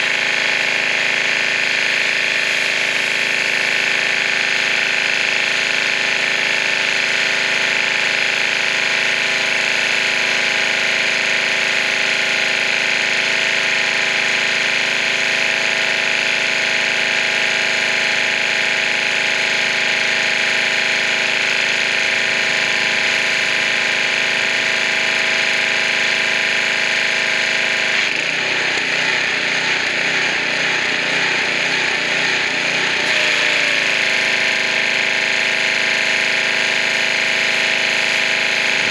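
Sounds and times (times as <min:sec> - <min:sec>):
pressure washer machine drone: 0:00.0 - 0:38.9.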